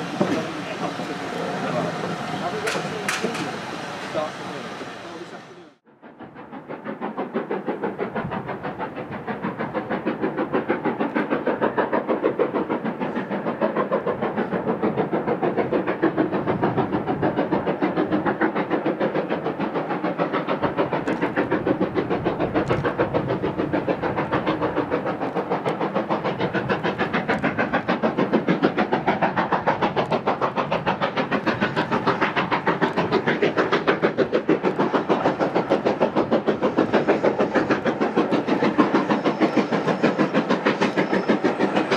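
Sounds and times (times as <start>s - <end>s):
steam locomotive exhaust beating: 0.0s - 41.9s.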